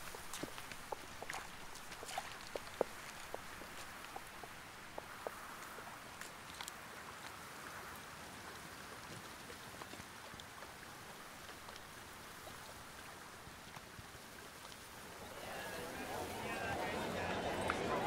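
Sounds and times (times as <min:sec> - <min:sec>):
light water drips: 0:00.0 - 0:15.4
stream trickling: 0:00.0 - 0:16.3.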